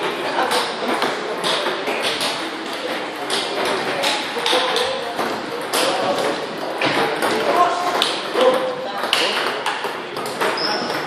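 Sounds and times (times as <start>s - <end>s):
people talking: 0.0s - 11.0s
table tennis balls clicking: 0.0s - 11.0s.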